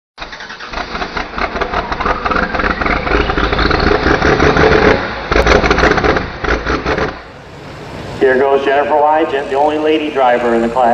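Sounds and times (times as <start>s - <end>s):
tractor engine revving: 0.2s - 10.9s
rising whine: 1.0s - 10.9s.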